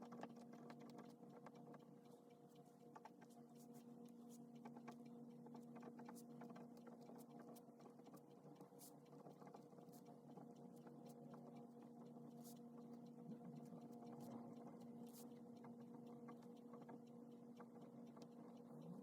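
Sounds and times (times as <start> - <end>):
faint electrical hum: 0.0 - 19.0
light clicks and ticks: 0.0 - 19.0.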